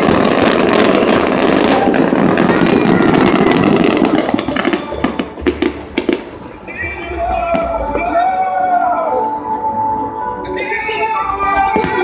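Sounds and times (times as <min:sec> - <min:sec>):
fireworks crackling and banging: 0:00.0 - 0:09.4, 0:10.6 - 0:12.0.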